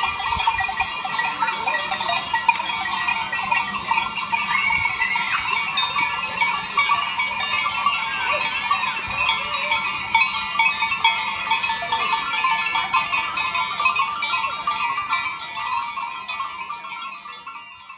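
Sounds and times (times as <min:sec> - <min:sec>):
goat bells jangling: 0:00.0 - 0:17.9.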